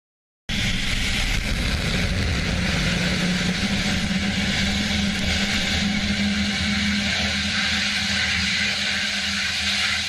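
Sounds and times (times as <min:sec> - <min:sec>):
low hum: 0:00.5 - 0:10.0
rocket engine roar: 0:00.5 - 0:10.0.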